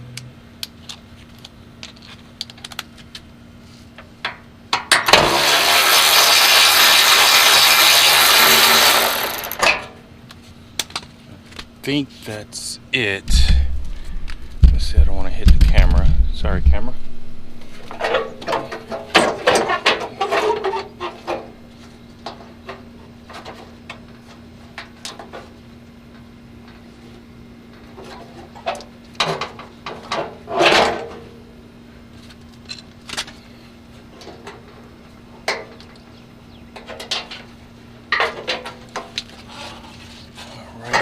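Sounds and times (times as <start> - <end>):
steady low hum: 0.0 - 38.2.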